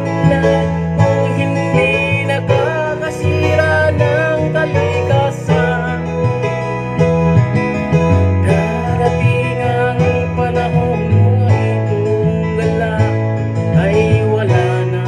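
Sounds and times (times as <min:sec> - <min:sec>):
acoustic guitar: 0:00.0 - 0:15.0
bass notes: 0:00.0 - 0:15.0
man singing: 0:00.0 - 0:15.0.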